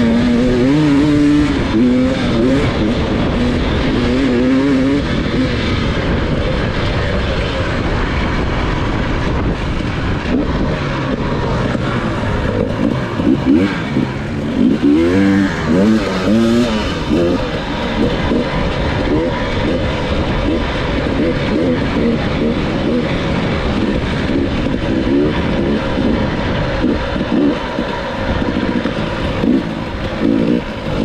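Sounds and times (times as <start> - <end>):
dirt bike engine revving: 0.0 - 31.0
steady rush of noise: 0.0 - 31.0.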